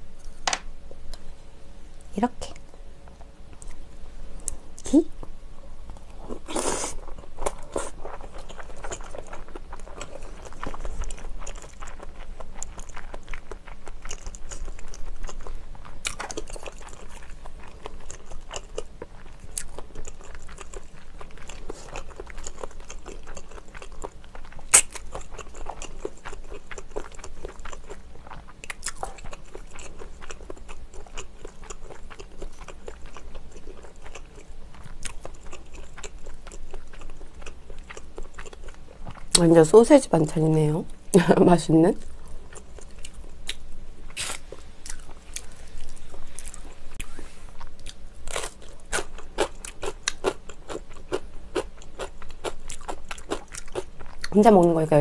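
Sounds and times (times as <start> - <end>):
person chewing and crunching: 5.9 - 39.4, 42.0 - 54.4.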